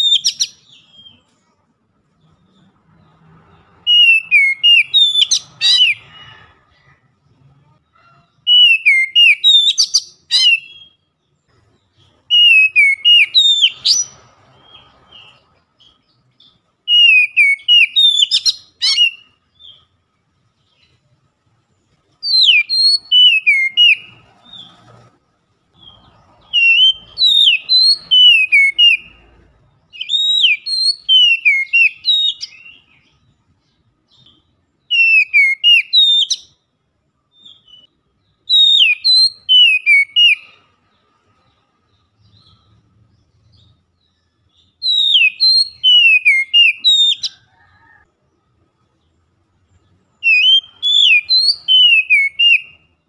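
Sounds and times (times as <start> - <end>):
bird singing whistled trills: 0.0 - 1.3, 2.3 - 6.4, 8.4 - 19.9, 22.2 - 24.8, 25.7 - 36.7, 37.3 - 47.9, 50.1 - 53.0.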